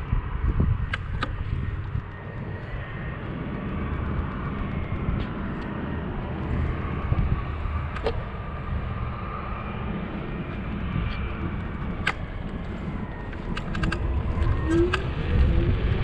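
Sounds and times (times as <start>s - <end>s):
faint steady whine: 0.0s - 16.0s
wind buffeting microphone: 0.0s - 16.0s
tyres rolling on asphalt: 1.0s - 16.0s.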